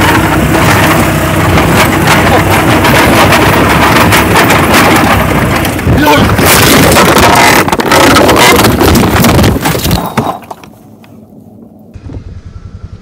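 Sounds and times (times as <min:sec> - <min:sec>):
bangs and clatter of cart tipping: 0:00.0 - 0:10.8
golf cart running and rattling: 0:00.0 - 0:12.3.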